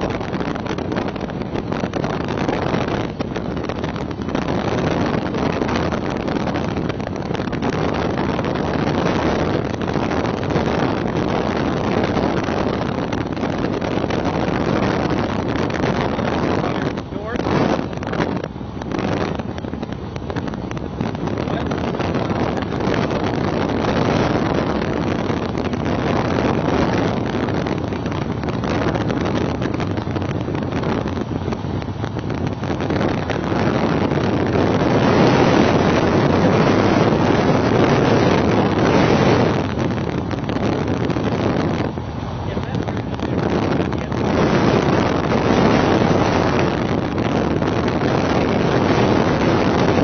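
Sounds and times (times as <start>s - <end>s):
road and engine noise: 0.0s - 50.0s
wind rushing on microphone: 0.0s - 50.0s.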